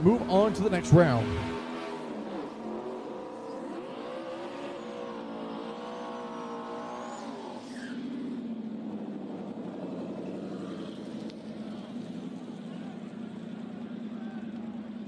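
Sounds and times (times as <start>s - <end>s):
car engines revving high: 0.0s - 15.0s.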